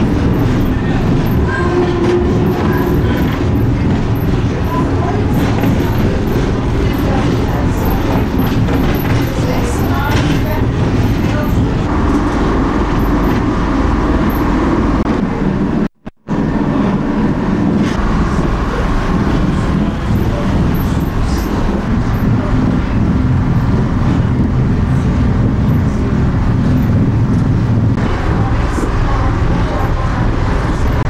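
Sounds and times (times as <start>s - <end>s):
railcar engine and wheels drone: 0.0s - 31.0s.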